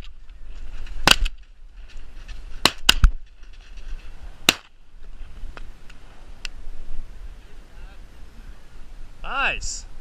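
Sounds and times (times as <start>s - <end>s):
low wind rumble: 0.0s - 10.0s.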